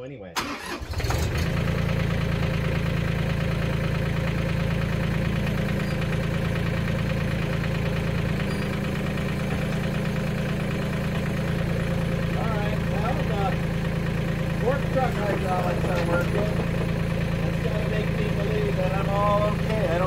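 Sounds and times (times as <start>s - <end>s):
tractor diesel engine idling: 0.4s - 20.0s.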